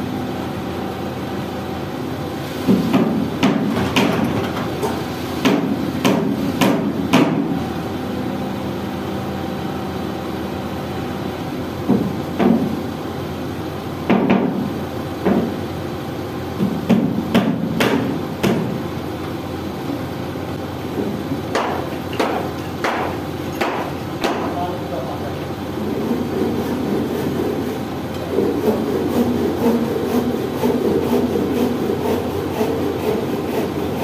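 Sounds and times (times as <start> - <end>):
excavator engine idling: 0.0 - 34.0.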